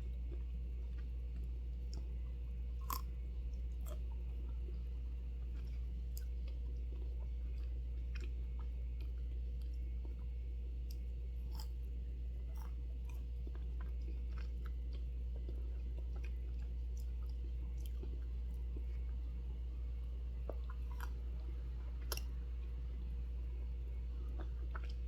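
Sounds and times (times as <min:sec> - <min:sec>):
biting and chewing ice cream: 0:00.0 - 0:25.0
steady low hum: 0:00.0 - 0:25.0.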